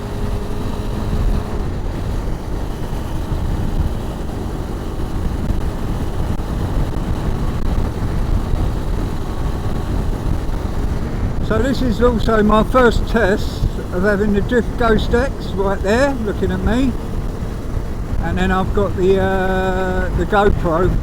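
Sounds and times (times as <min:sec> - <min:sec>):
motorcycle engine rumble: 0:00.0 - 0:21.0.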